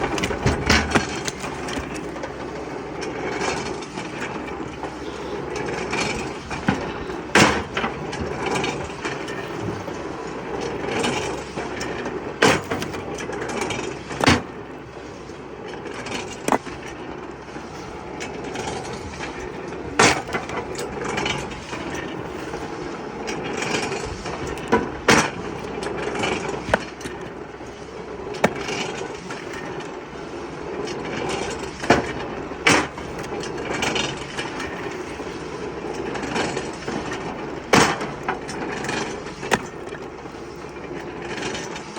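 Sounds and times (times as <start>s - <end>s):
rough woodworking noise: 0.0s - 41.9s.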